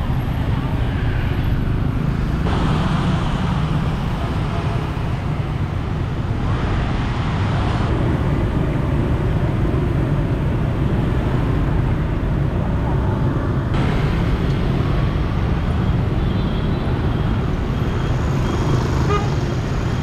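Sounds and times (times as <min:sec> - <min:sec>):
street traffic passing: 0:00.0 - 0:20.0.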